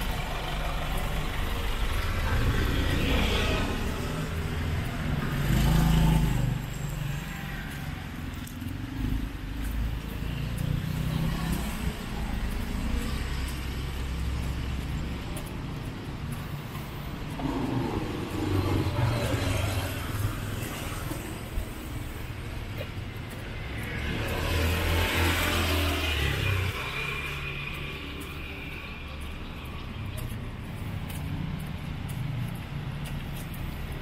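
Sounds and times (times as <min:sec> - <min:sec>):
low hum of traffic: 0:00.0 - 0:34.0
motorcycles passing: 0:00.0 - 0:34.0.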